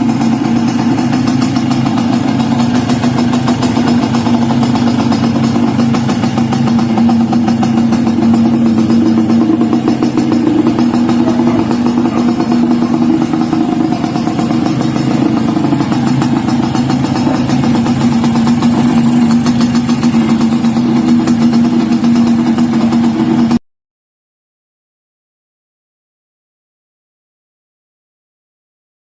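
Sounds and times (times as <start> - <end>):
motorcycle engine idling: 0.0 - 23.6.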